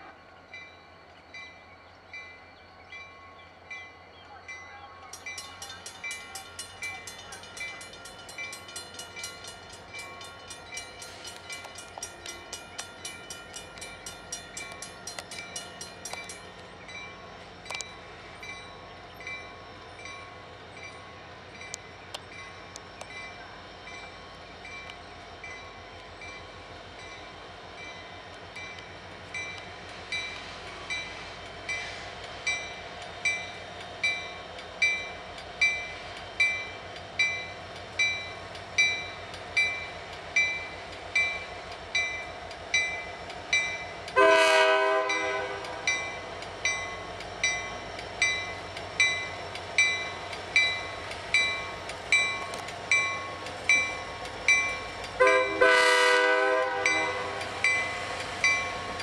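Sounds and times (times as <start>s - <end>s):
locomotive bell ringing: 1.4s - 59.0s.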